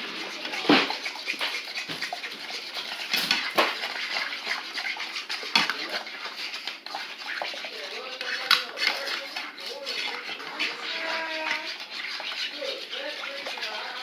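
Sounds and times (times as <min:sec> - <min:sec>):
metal utensil scraping a pot: 0:00.0 - 0:14.0.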